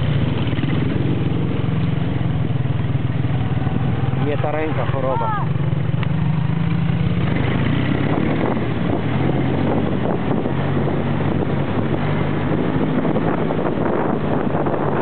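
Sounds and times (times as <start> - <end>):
quad engine running: 0.0 - 15.0
wind buffeting microphone: 0.0 - 15.0.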